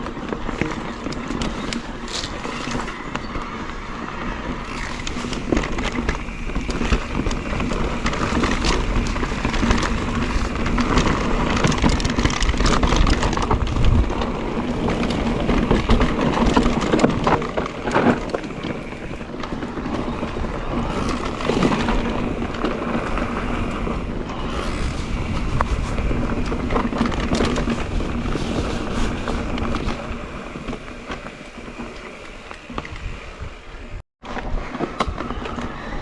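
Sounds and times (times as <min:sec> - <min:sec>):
tyres crunching over stones: 0:00.0 - 0:33.6
bike chain and frame rattling: 0:00.0 - 0:34.0.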